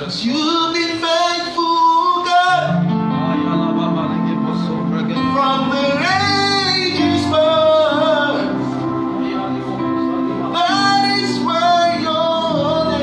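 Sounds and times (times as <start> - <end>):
instrumental accompaniment: 1.6 - 13.0.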